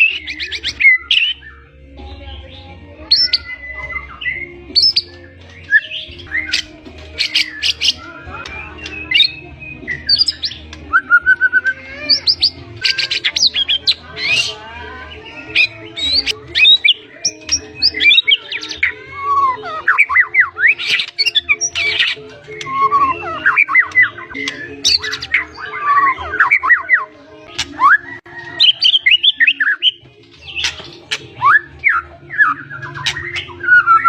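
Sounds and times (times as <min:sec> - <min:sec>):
bird singing varied song: 0:00.0 - 0:34.0.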